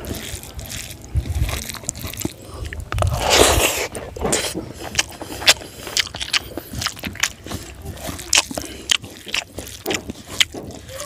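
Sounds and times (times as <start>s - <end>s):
person chewing with open mouth: 0.0s - 11.0s.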